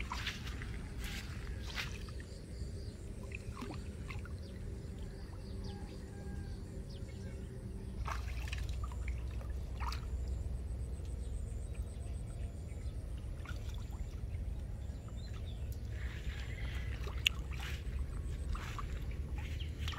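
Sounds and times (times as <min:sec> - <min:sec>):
water sloshing and splashing: 0:00.0 - 0:06.1, 0:07.9 - 0:12.3, 0:12.9 - 0:19.9
steady low rumble: 0:00.0 - 0:19.9.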